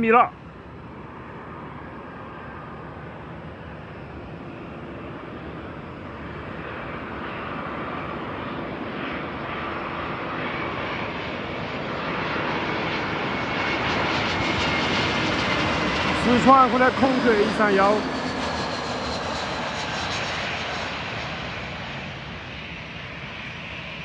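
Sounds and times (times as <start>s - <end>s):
faint engine whine: 0.0s - 24.0s
jet engines rushing: 0.0s - 24.0s.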